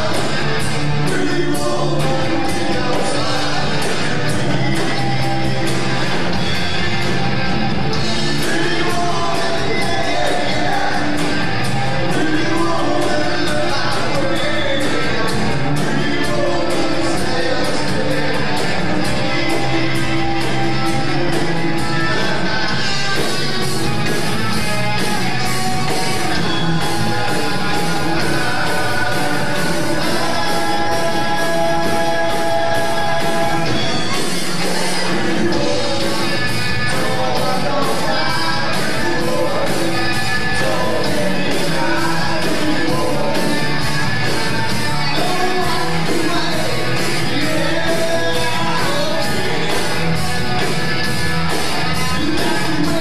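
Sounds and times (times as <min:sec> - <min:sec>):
drums keeping a steady beat: 0:00.0 - 0:53.0
electric guitars: 0:00.0 - 0:53.0
lead singer: 0:00.0 - 0:53.0.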